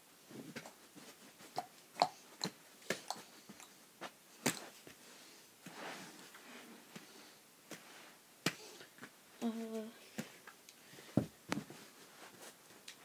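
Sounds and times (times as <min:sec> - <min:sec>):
soft rustle: 0:00.2 - 0:01.6, 0:02.2 - 0:13.0.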